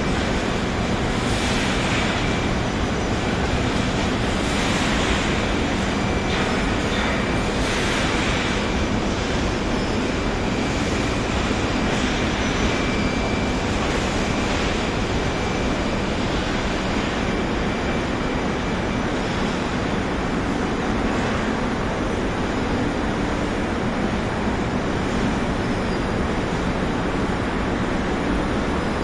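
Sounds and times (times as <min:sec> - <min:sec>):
industrial machinery noise: 0:00.0 - 0:29.0.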